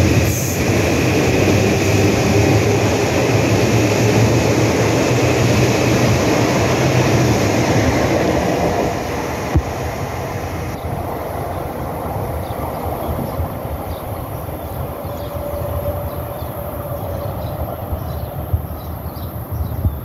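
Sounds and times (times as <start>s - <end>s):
train whine: 0.0s - 19.3s
train wheels rumbling on rails: 0.0s - 20.0s.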